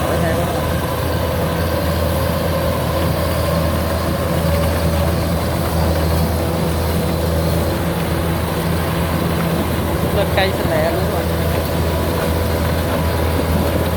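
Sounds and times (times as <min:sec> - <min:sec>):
combine harvester droning: 0:00.0 - 0:13.9.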